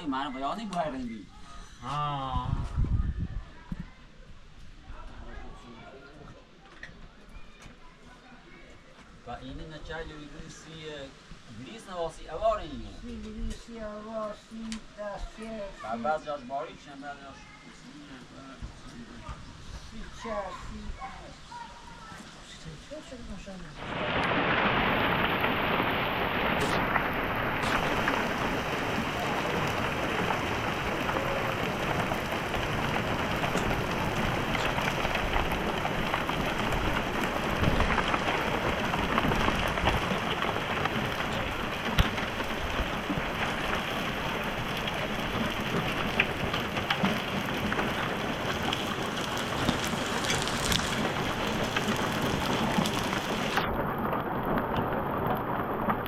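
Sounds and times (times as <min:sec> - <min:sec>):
heavy rain pouring: 0:09.2 - 0:17.1, 0:17.7 - 0:56.0.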